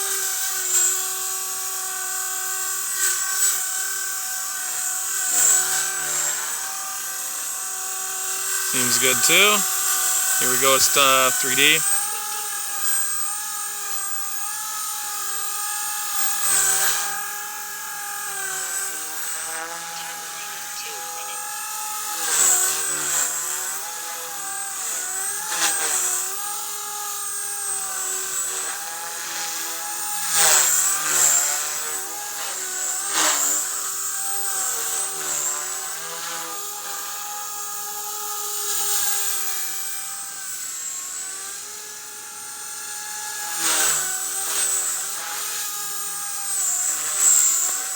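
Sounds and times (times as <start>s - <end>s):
rc helicopter motor whine: 0.0s - 10.4s, 11.8s - 47.9s.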